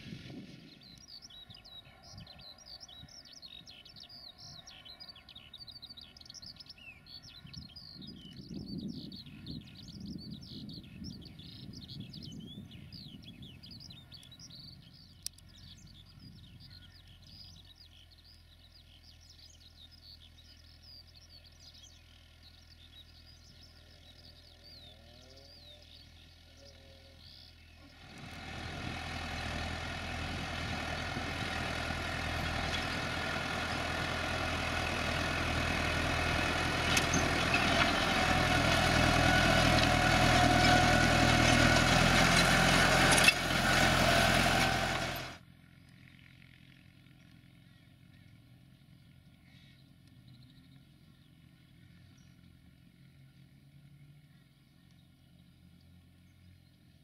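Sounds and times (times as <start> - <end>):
tractor diesel engine under load: 0.0 - 54.6
faint birdsong: 0.0 - 57.0
low distant hum: 0.0 - 57.0.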